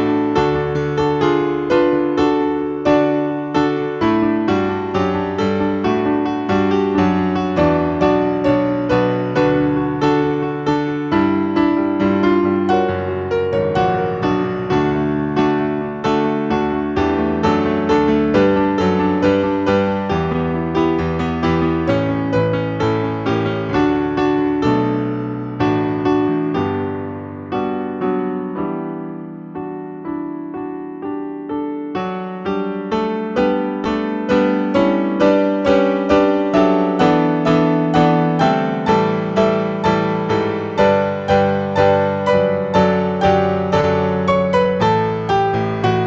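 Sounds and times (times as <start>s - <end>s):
solo piano music: 0.0s - 46.0s.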